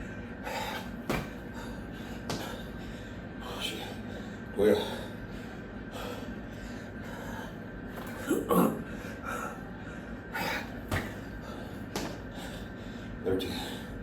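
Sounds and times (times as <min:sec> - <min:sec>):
man breathing hard: 0:00.0 - 0:14.0.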